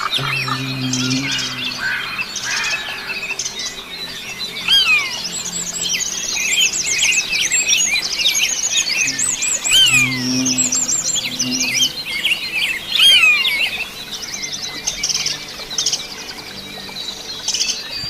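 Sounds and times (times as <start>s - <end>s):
chorus of birds chirping: 0.0s - 18.0s.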